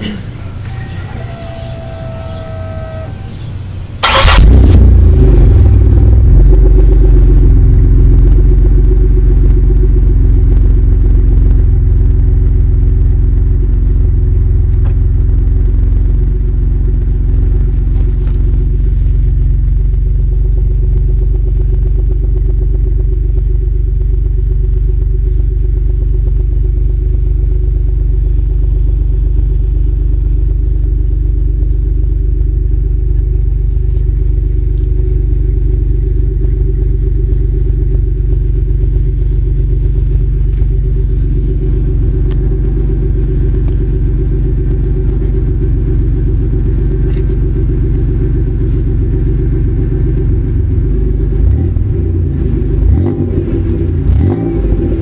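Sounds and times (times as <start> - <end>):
car engine starting and idling: 3.3 - 55.0.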